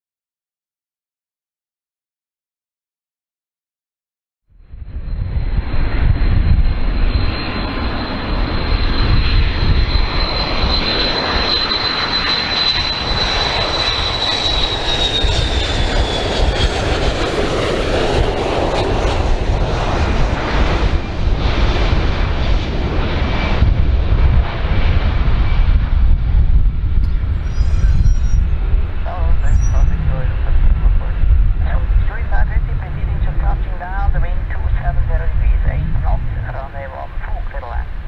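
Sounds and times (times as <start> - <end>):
jet roar and low rumble: 4.5 - 38.0
jet engine whine: 4.6 - 38.0.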